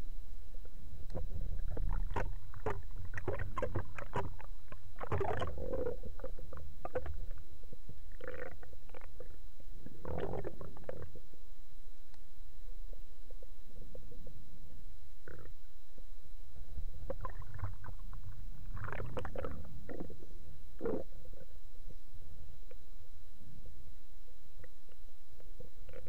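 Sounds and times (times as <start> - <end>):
low rumble of moving water: 0.0 - 26.0.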